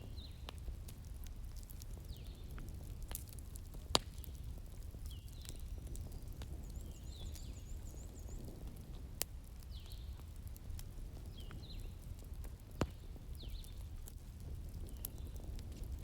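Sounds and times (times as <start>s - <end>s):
wood fire crackling: 0.0s - 16.0s
sharp pops of fire: 0.1s - 7.6s, 8.3s - 16.0s.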